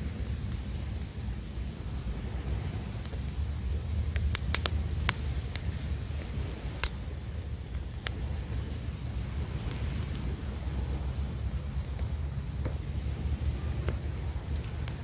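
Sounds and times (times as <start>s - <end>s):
campfire crackling and popping: 0.0s - 15.0s
low rumble of surf: 0.0s - 15.0s.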